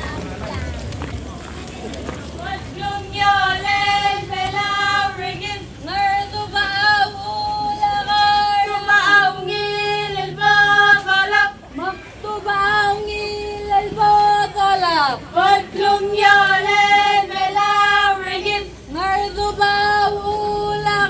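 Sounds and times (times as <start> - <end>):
high voices singing in unison: 2.3 - 21.0.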